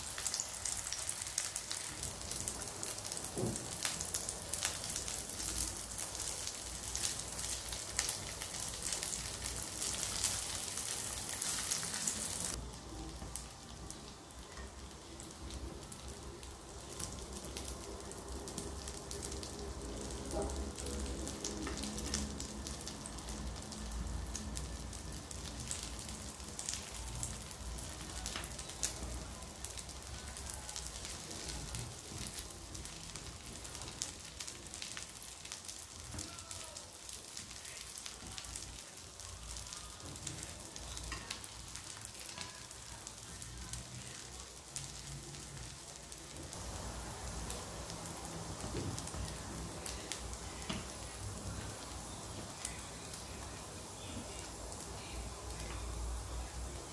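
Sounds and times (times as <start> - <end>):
food sizzling in hot oil: 0.0 - 56.9.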